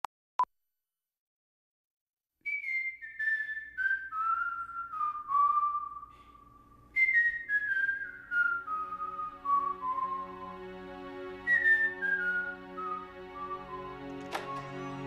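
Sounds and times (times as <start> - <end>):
whistled melody: 2.4 - 15.0.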